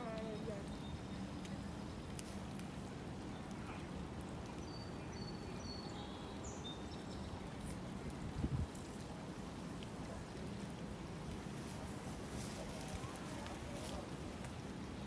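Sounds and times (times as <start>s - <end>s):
outdoor background noise by creek: 0.0s - 15.0s.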